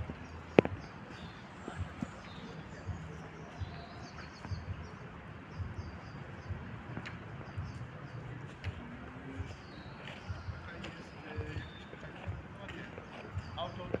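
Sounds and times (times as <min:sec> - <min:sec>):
low irregular thumps: 0:00.0 - 0:14.0
songbirds chirping: 0:00.0 - 0:14.0.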